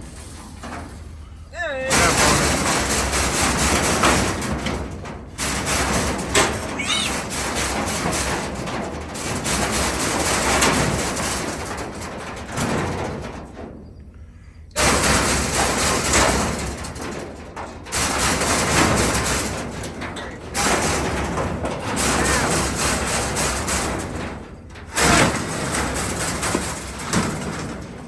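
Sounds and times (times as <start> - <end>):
metal panels scraping and rattling: 0.0 - 13.8, 14.8 - 28.0.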